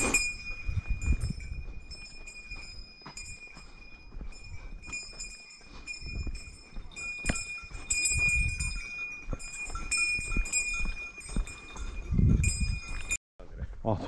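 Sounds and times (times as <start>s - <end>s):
bell jingling: 0.0s - 13.2s
footsteps on dirt trail: 0.0s - 13.8s.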